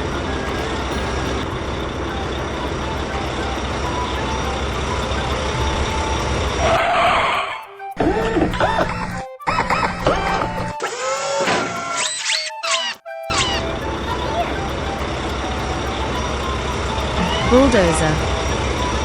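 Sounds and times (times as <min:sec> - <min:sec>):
cartoon truck engine running: 0:00.0 - 0:19.0.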